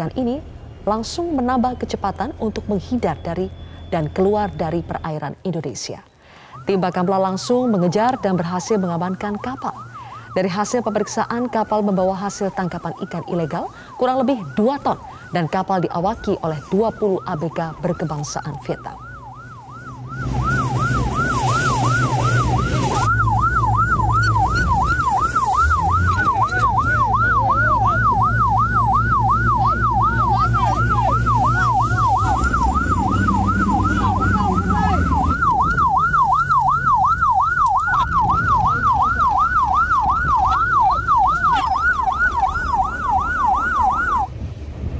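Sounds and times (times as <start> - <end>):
wind: 0.0 - 44.9
boat engine rumble: 6.4 - 44.9
electronic siren yelping: 6.6 - 44.3.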